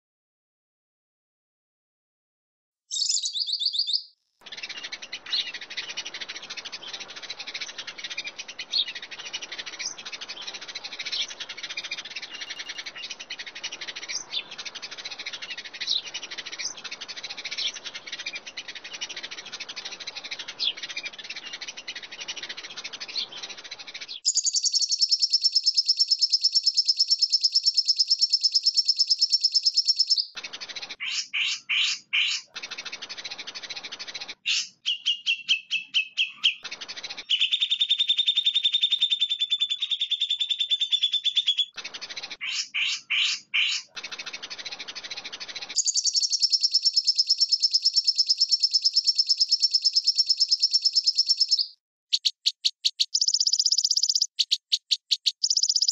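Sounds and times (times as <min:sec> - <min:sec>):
birds chirping: 0:02.9 - 0:55.9
rapid bird trill: 0:02.9 - 0:55.9.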